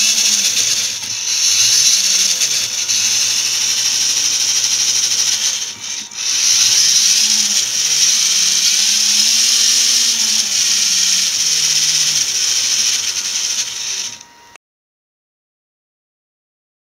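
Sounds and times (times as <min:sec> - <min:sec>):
electric motor whirring: 0:00.0 - 0:14.6.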